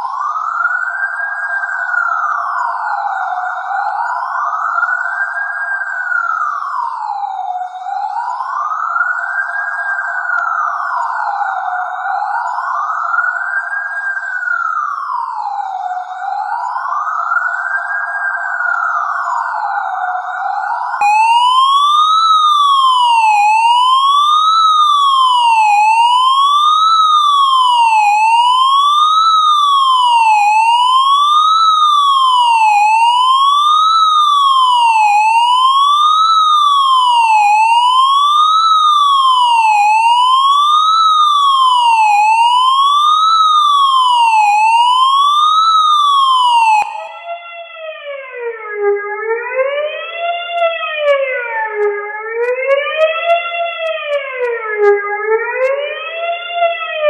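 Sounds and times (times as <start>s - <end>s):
quieter slower siren: 0.0s - 57.0s
siren sweeping up and down: 0.0s - 57.0s.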